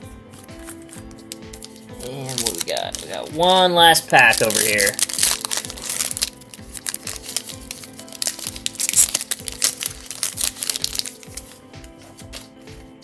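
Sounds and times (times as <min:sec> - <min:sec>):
quiet background music: 0:00.0 - 0:13.0
foil wrapper crinkling and tearing: 0:00.3 - 0:12.6
cards rustling: 0:00.3 - 0:12.8.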